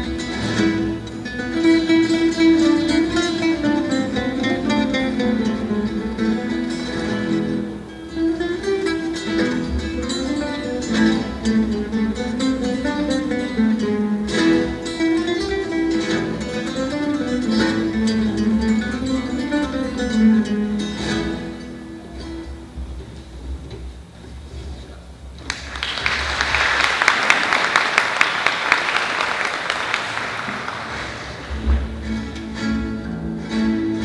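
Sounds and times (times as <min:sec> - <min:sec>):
acoustic guitar ensemble playing: 0:00.0 - 0:34.0.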